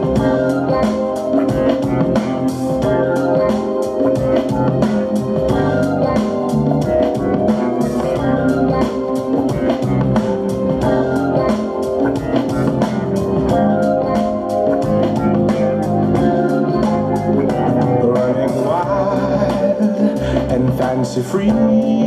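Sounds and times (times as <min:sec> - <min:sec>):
instrumental band music: 0:00.0 - 0:22.0.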